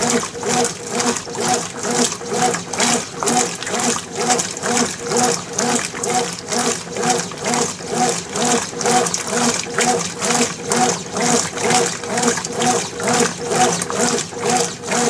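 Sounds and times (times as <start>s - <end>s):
washing machine agitating water: 0.0s - 15.0s.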